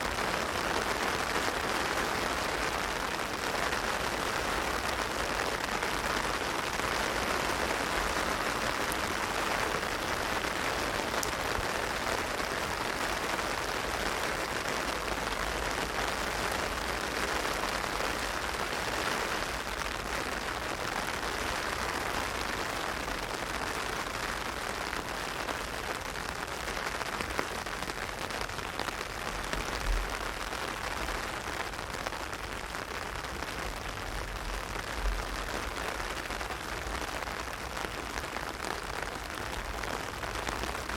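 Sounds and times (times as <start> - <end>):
heavy rain on umbrella: 0.0 - 40.9.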